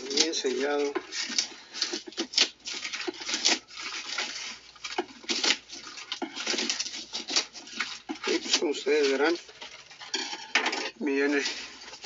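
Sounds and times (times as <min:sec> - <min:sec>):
knife cutting through plastic: 0:00.0 - 0:12.0
plastic bag rustling: 0:00.0 - 0:12.0.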